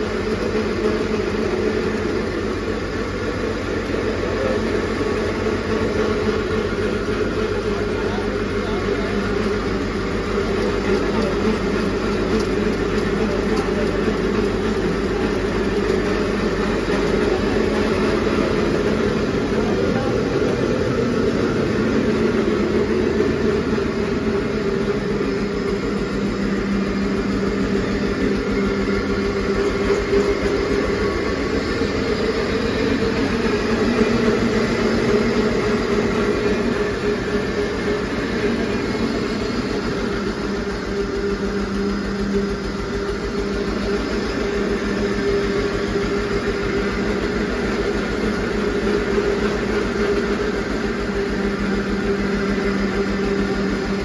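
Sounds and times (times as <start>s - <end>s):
mill machinery humming: 0.0s - 54.0s
tractor engine beat: 0.0s - 54.0s.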